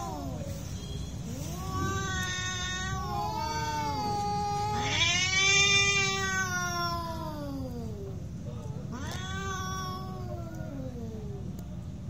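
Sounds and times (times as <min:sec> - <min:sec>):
cats yowling: 0:00.0 - 0:00.6, 0:01.3 - 0:11.7.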